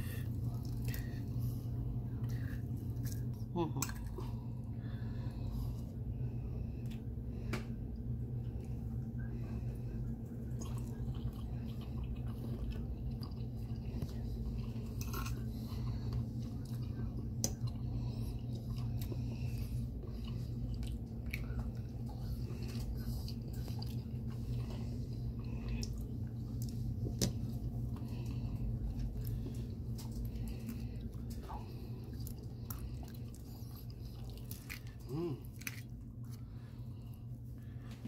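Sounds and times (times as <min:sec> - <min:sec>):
person chewing food: 0:00.0 - 0:38.0
steady low hum: 0:00.0 - 0:38.0.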